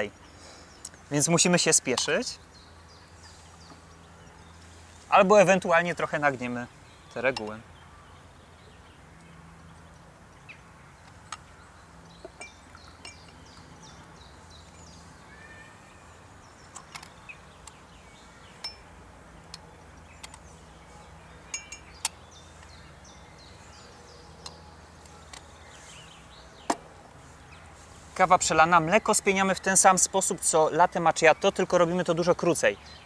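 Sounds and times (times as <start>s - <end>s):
faint bird chirps: 5.9s - 33.0s.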